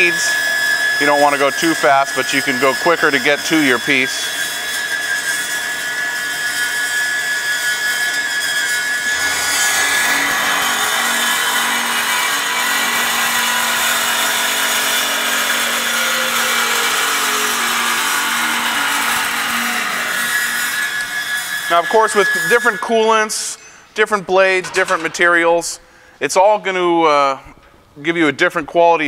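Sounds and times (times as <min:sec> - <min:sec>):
bandsaw cutting metal: 0:00.0 - 0:23.8.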